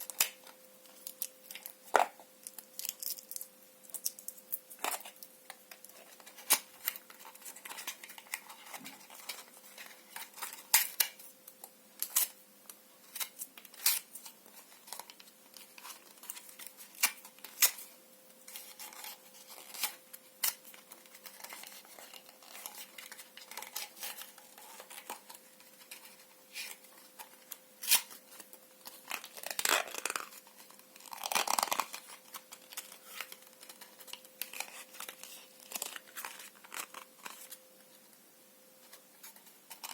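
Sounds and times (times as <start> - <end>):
paper crumpling and crackling: 0.0 - 11.2, 13.0 - 38.0, 38.8 - 39.9.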